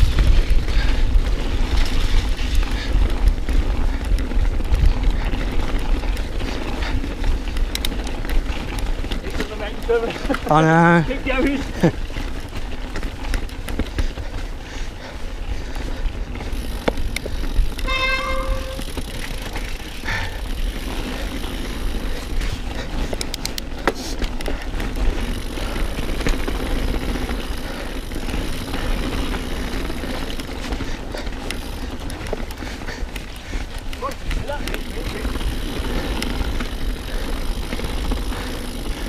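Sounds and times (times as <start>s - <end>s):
bike rattles and clicks: 0.0s - 39.0s
wind buffeting: 0.0s - 39.0s.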